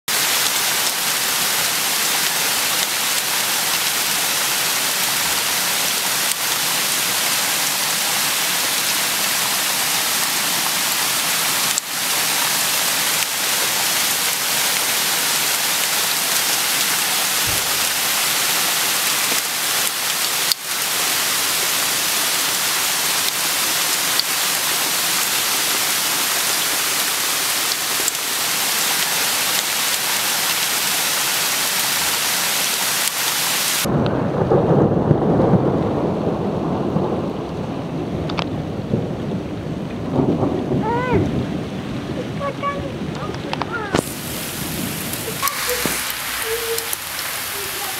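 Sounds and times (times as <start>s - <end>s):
heavy rain hissing: 0.1s - 33.9s, 40.2s - 47.9s.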